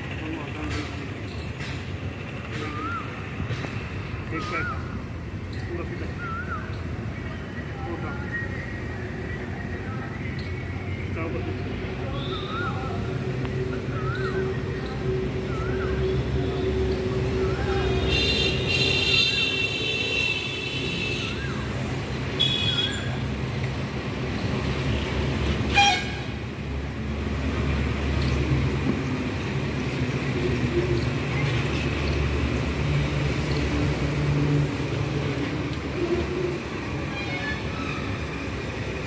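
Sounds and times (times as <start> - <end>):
low rumble of passing vehicles: 0.0 - 39.0.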